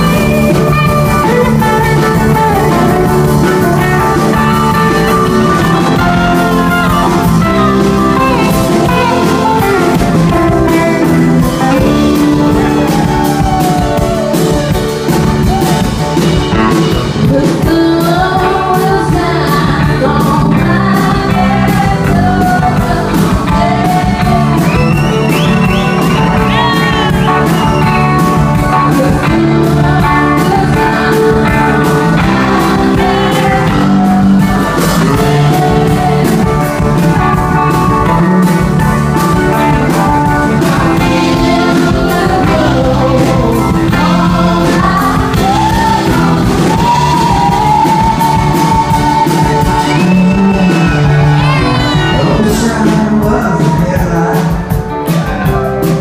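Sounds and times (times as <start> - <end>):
bass: 0.0 - 56.0
drum kit: 0.0 - 56.0
electric guitar lead: 0.0 - 56.0
person singing: 0.0 - 56.0.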